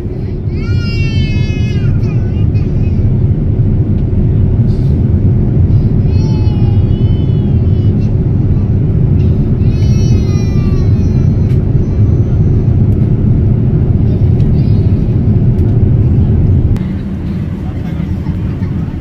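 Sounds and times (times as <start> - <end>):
vehicle rumbling in motion: 0.0 - 19.0.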